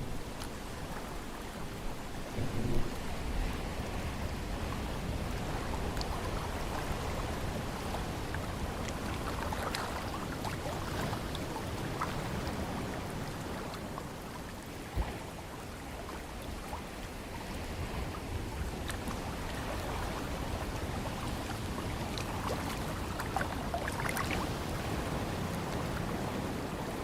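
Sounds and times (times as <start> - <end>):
ocean water: 0.0 - 27.0
wind: 0.0 - 27.0.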